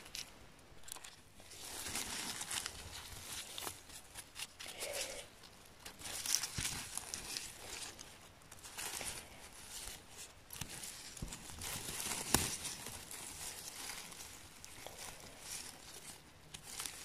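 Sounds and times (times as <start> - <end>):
gloved hands rustling in moss: 0.0 - 17.0.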